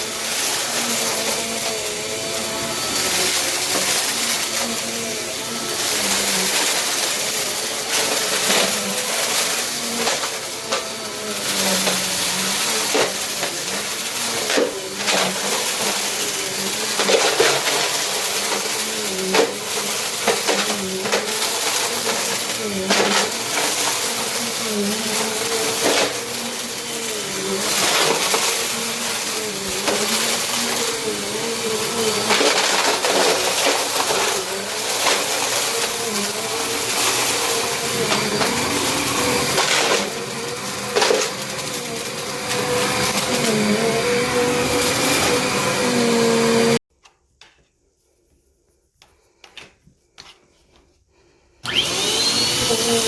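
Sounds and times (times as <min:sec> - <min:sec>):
vacuum cleaner running: 0:00.0 - 0:46.9, 0:51.6 - 0:53.0
brushroll crunching debris: 0:00.2 - 0:46.8.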